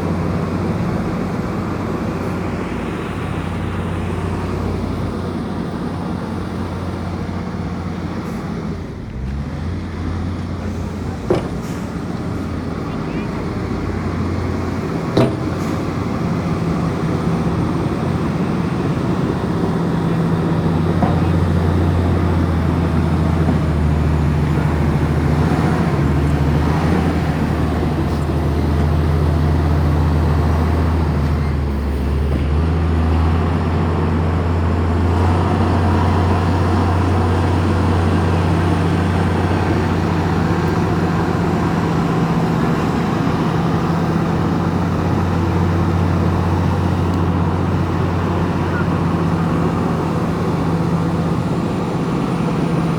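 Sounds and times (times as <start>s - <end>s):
bulldozer diesel engine drone: 0.0s - 52.9s.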